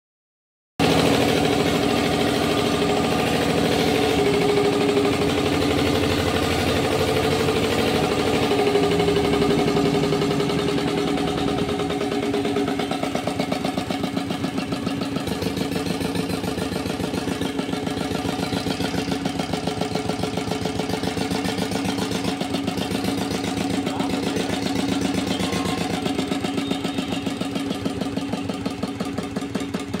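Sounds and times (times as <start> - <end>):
diesel engine chugging: 0.8 - 30.0.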